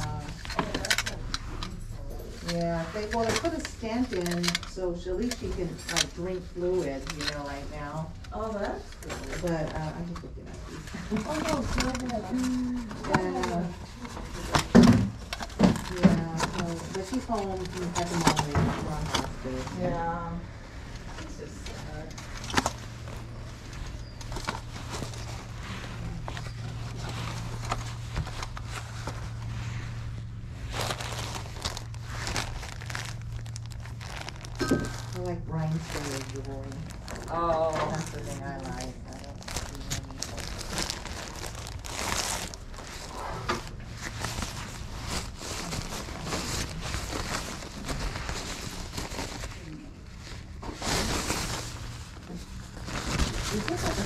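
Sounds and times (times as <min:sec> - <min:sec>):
plastic packaging rustling: 0:00.0 - 0:54.0
steady low hum: 0:00.0 - 0:54.0.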